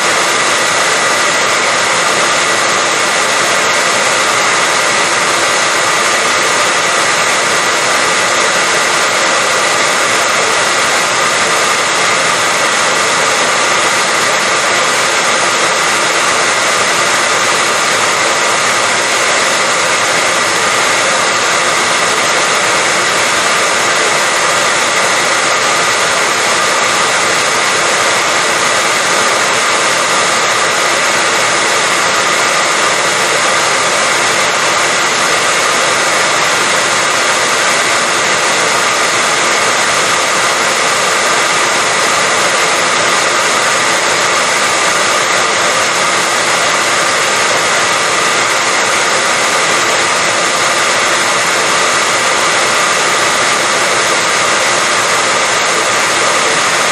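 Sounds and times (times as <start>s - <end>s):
hair dryer blowing air: 0.0s - 56.9s.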